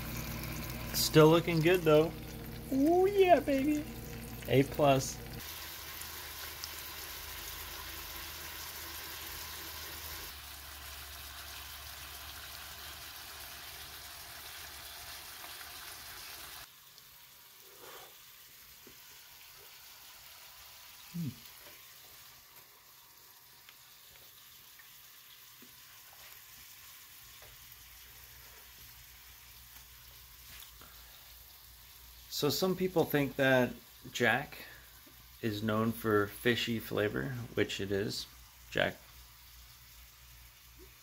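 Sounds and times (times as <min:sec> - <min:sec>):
fish sizzling in oil: 0:00.0 - 0:41.0.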